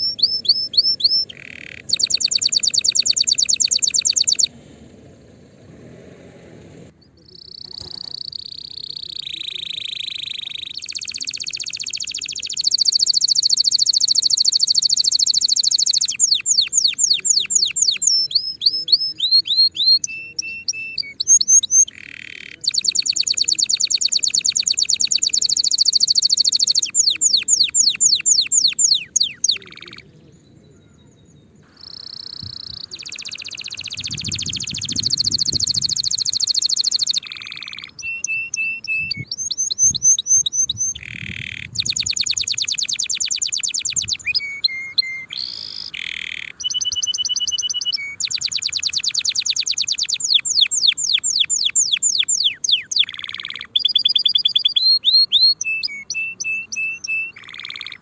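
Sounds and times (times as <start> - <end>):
canary singing trills: 0.0 - 4.5, 6.9 - 58.0.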